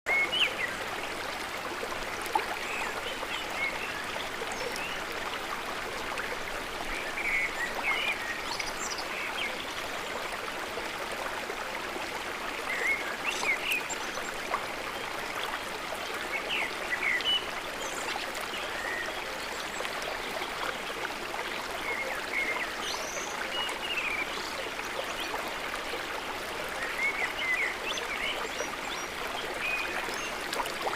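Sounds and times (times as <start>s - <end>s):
river water flowing: 0.1s - 30.9s.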